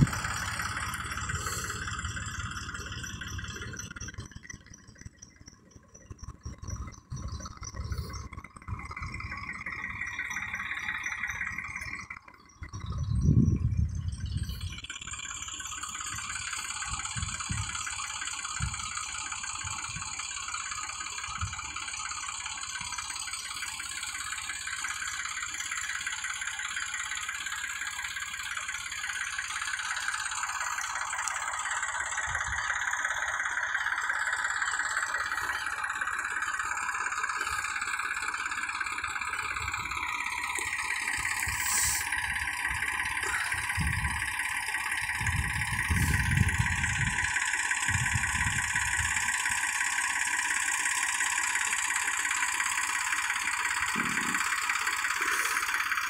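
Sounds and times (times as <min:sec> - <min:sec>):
tractor engine and pump whirring: 0:00.0 - 0:56.0.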